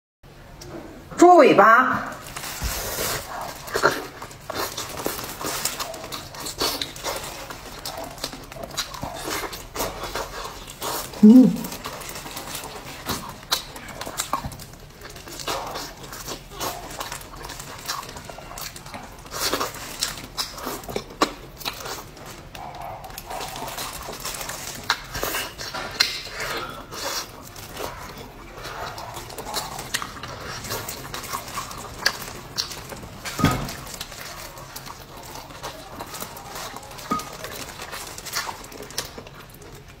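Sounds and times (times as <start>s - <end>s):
wet chewing: 2.1s - 40.0s.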